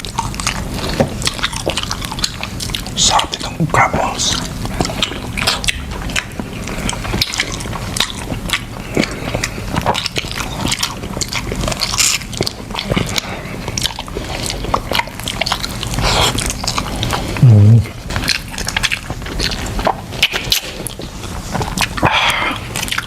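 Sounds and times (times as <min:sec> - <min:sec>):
person biting and chewing: 0:00.0 - 0:23.0.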